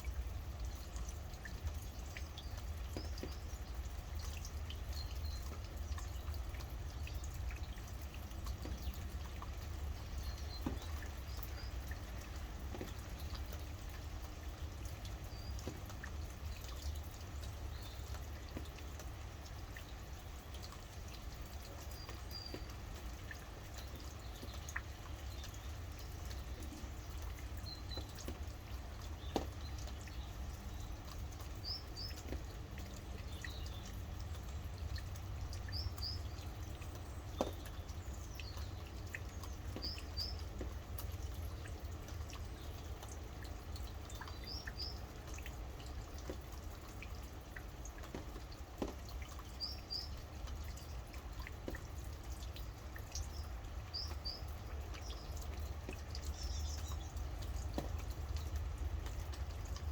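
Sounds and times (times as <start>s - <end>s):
steady rain: 0.0s - 59.9s
water dripping: 0.0s - 59.9s.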